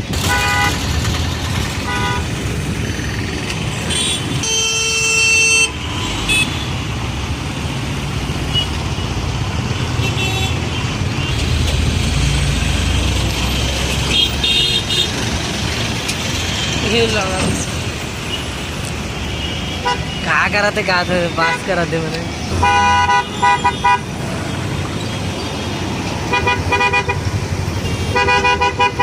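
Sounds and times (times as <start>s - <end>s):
traffic engines rumbling: 0.0s - 29.0s.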